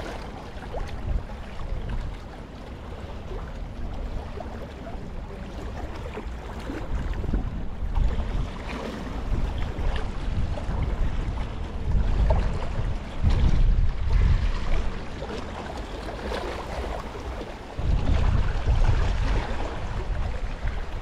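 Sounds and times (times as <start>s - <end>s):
waves lapping against rocks: 0.0s - 21.0s
wind buffeting microphone: 0.0s - 21.0s.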